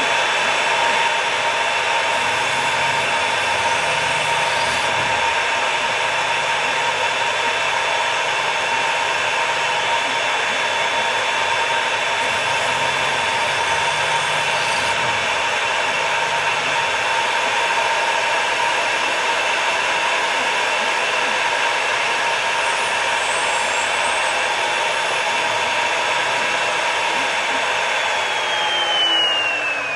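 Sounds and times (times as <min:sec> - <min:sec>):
knife sharpening machine running: 0:00.0 - 0:19.4, 0:22.5 - 0:29.9.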